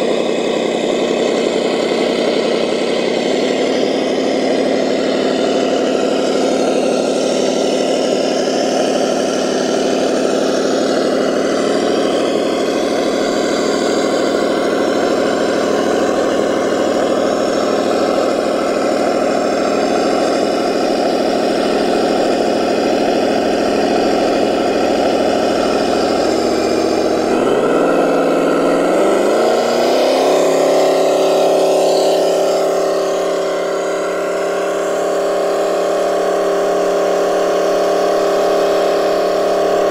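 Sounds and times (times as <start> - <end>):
toy truck motor hum: 0.0 - 39.9.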